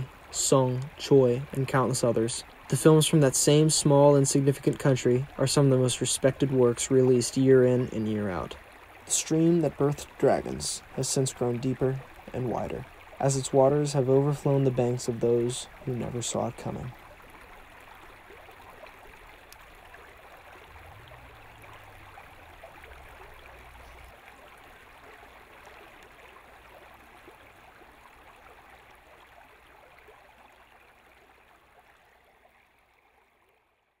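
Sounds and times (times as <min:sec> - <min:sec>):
stream babbling: 0:00.0 - 0:34.0.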